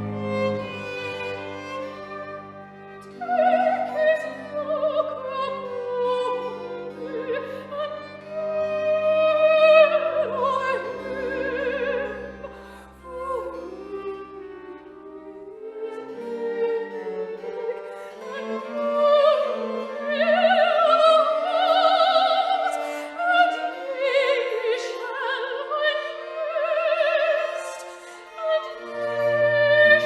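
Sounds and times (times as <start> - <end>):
low string accompaniment: 0.0 - 30.0.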